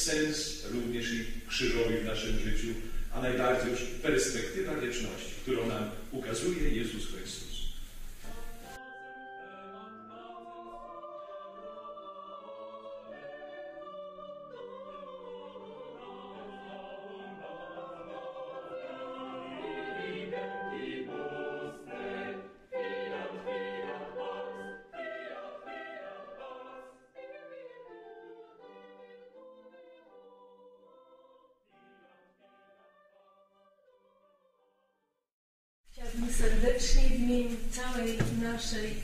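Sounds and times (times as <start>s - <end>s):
choir singing a hymn: 0.0s - 7.3s, 8.2s - 33.5s.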